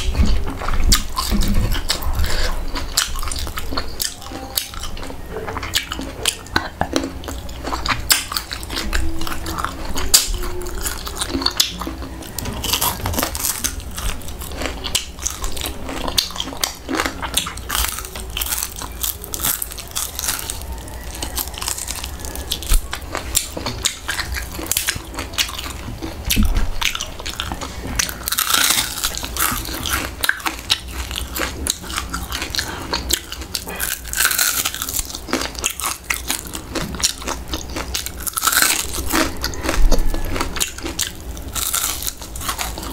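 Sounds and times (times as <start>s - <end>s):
person chewing crispy food: 0.0s - 42.9s.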